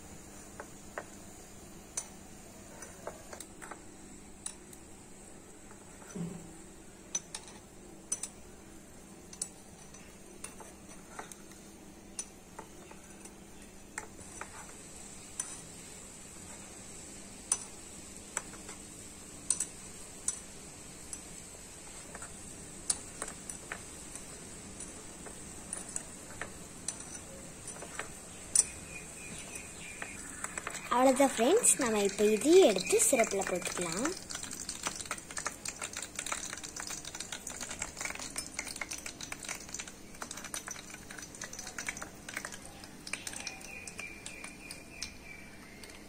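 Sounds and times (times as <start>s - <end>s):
oil sizzling: 0.0s - 46.0s.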